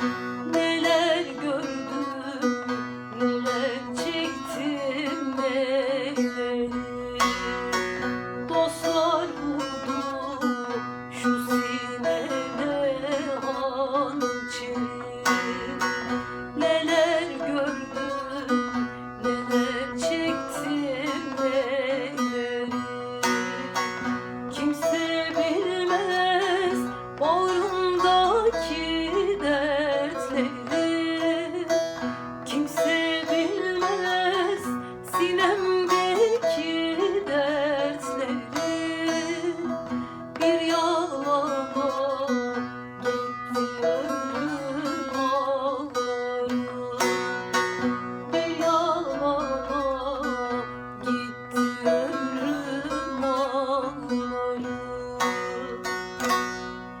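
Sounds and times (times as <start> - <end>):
plucked string instrument melody: 0.0 - 57.0.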